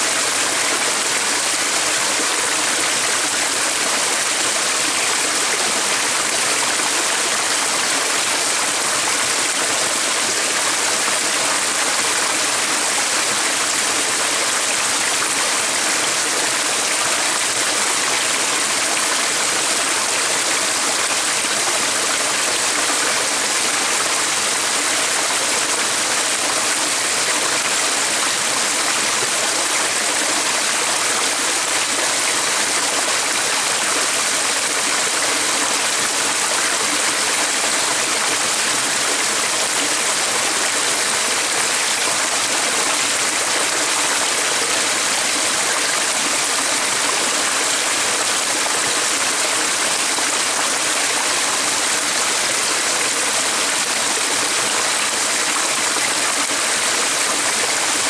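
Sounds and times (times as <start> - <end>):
stream rushing and trickling: 0.0 - 58.0.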